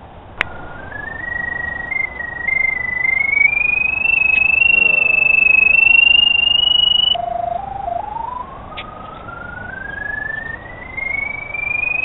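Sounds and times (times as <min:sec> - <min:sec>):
electronic locator tone: 0:00.4 - 0:12.0.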